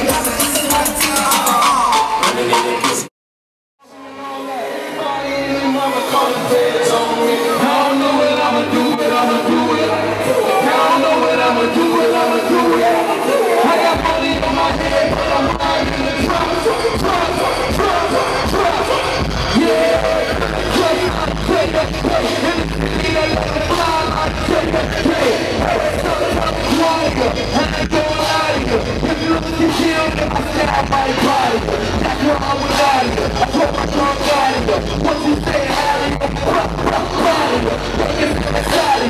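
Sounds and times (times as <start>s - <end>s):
heavy bass beat: 0.0s - 3.1s, 6.7s - 39.0s
rapping voice: 0.0s - 3.1s, 3.9s - 39.0s.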